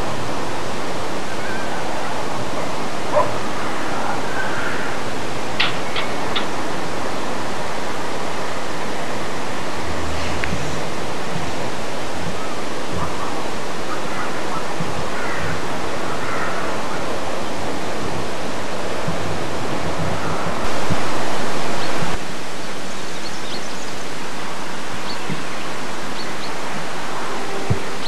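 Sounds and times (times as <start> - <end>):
loud steady hiss: 0.0 - 28.0.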